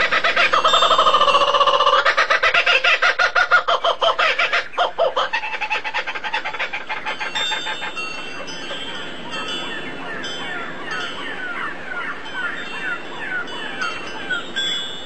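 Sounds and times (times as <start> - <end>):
bird calling harsh notes: 0.0 - 15.0.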